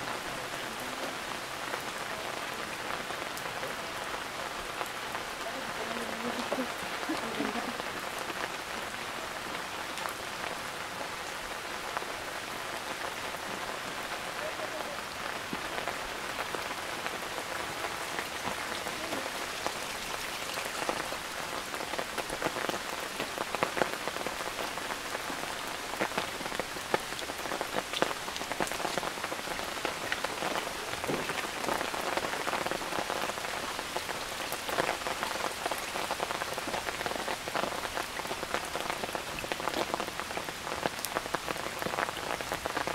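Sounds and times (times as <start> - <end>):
steady rain falling: 0.0 - 42.9
raindrops ticking: 0.1 - 42.9.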